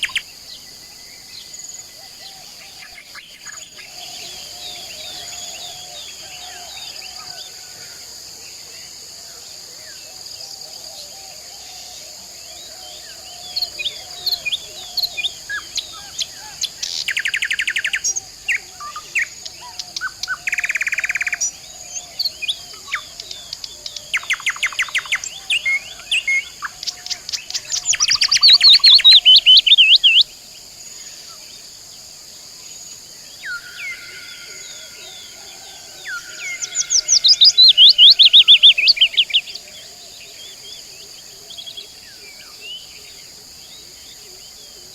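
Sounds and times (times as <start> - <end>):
high hum of insects: 0.0 - 44.9
songbirds chirping and trilling: 0.0 - 44.9.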